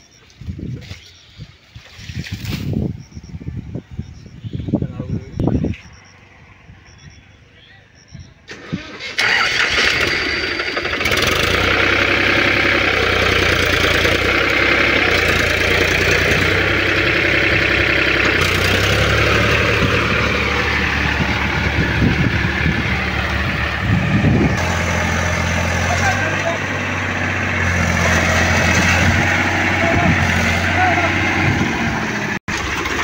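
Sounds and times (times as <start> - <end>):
tractor diesel engine running: 2.7 - 33.0.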